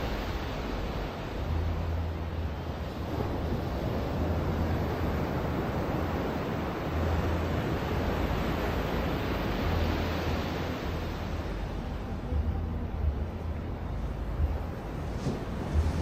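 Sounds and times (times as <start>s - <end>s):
ocean waves washing onto beach: 0.0s - 16.0s.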